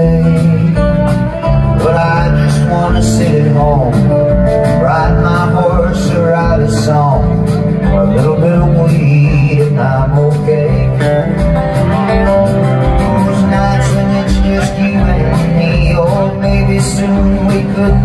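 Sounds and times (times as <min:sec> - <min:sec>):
acoustic guitar: 0:00.0 - 0:18.0
country band playing: 0:00.0 - 0:18.0
drums: 0:00.0 - 0:18.0.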